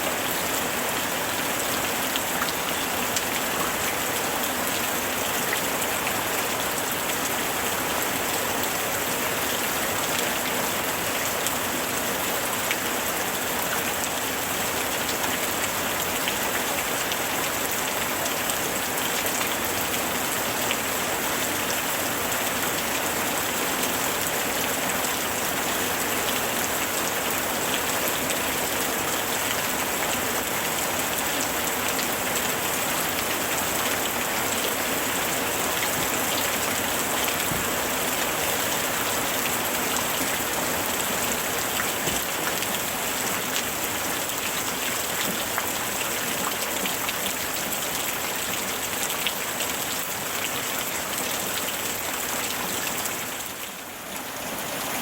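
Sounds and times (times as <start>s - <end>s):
rain pattering on surfaces: 0.1s - 55.0s.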